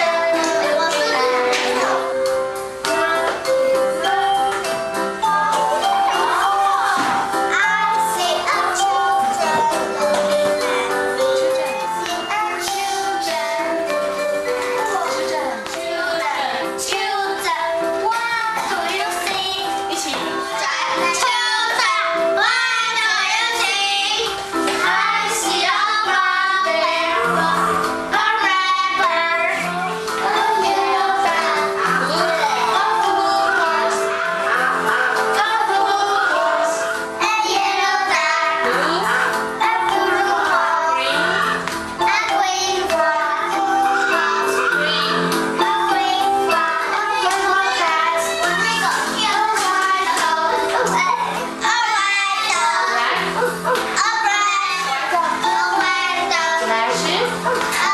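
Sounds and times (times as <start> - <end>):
child singing: 0.0 - 4.6, 5.2 - 57.9
instrumental backing music: 0.0 - 57.9.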